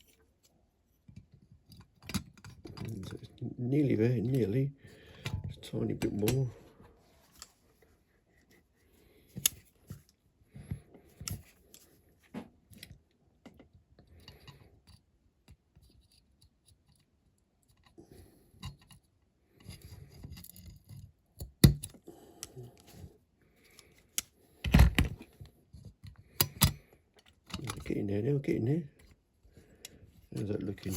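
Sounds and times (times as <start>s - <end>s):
scraping and handling small parts: 0.0s - 30.9s.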